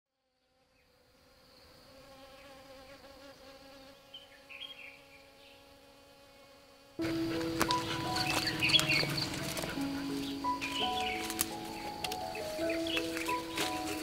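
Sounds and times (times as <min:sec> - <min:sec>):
bee buzzing: 0:00.2 - 0:14.0.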